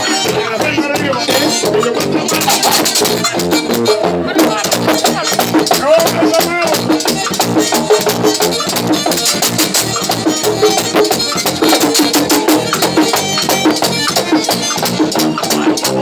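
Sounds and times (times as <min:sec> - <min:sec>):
button accordion: 0:00.0 - 0:16.0
congas: 0:00.0 - 0:16.0
electric bass: 0:00.0 - 0:16.0
tambora drum: 0:00.0 - 0:16.0.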